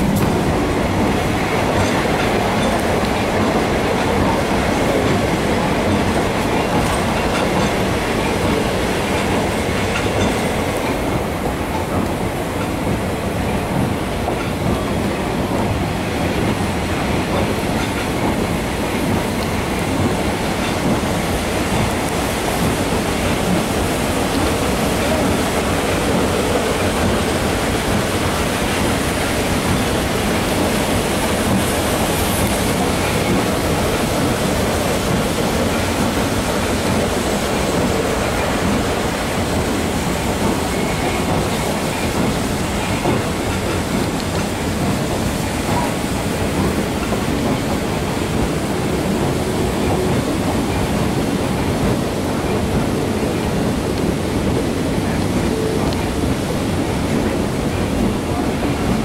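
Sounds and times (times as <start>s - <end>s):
steam locomotive working: 0.0s - 59.0s
train cars rolling on rails: 0.0s - 59.0s.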